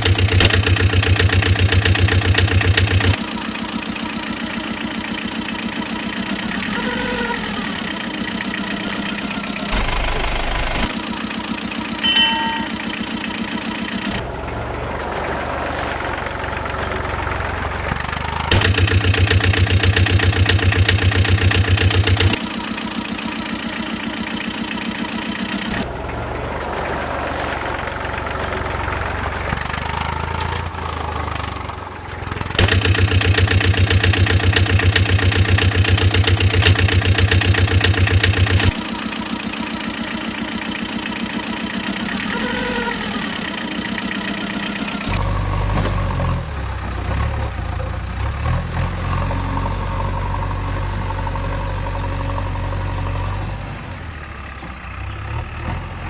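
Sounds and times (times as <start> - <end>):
vehicle engines running: 0.0 - 56.0.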